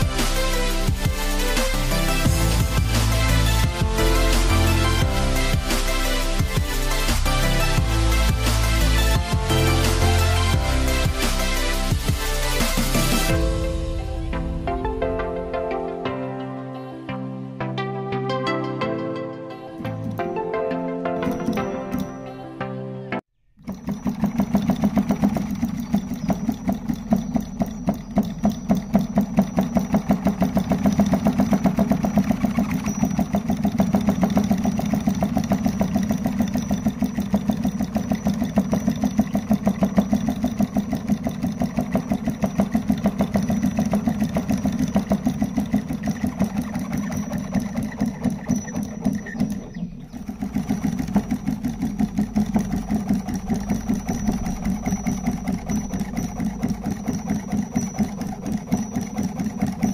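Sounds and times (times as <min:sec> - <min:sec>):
solenoid engine clattering: 0:00.0 - 0:13.5, 0:19.8 - 0:20.4, 0:21.2 - 0:22.4, 0:23.5 - 0:59.9.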